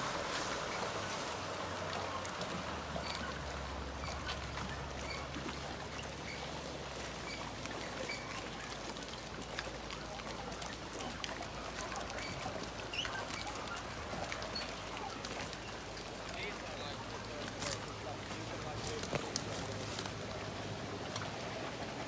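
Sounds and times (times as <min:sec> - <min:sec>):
distant motorboat engine hum: 0:00.0 - 0:22.0
small waves lapping: 0:00.0 - 0:22.0.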